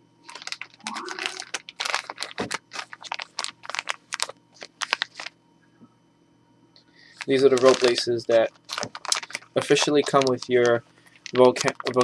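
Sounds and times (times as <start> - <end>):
plastic bag crinkling: 0.2 - 5.4, 7.1 - 12.0.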